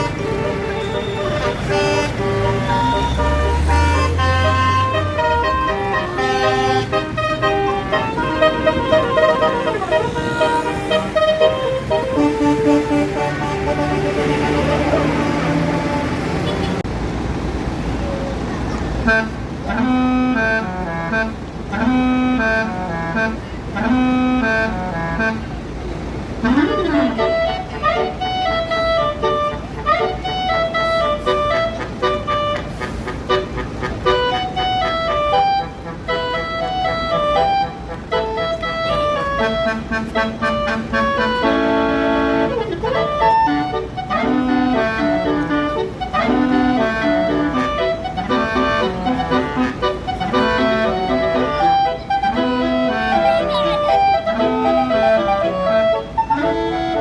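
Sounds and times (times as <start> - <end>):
musical air horn melody: 0.0 - 16.8, 19.1 - 25.6, 26.4 - 57.0.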